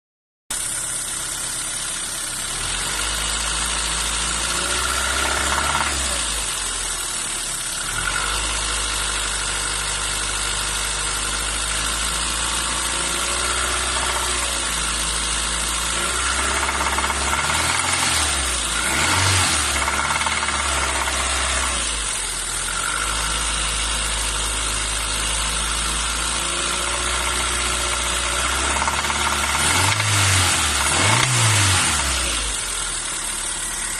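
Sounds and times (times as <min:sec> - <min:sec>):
car engine idling: 0:00.5 - 0:04.5, 0:08.6 - 0:31.8, 0:32.4 - 0:33.9.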